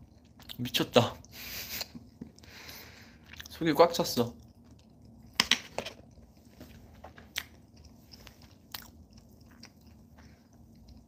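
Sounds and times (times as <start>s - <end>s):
person chewing quietly: 0.0s - 11.0s.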